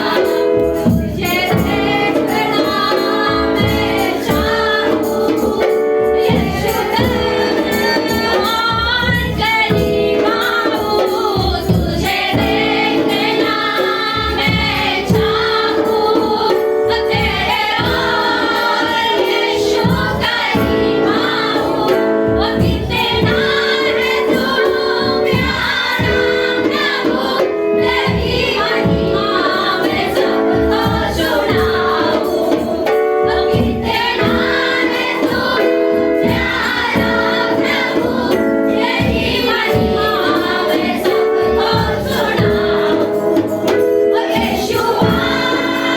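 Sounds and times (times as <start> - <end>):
rhythmic accompaniment with percussion: 0.0 - 45.9
women singing in unison: 0.0 - 45.9.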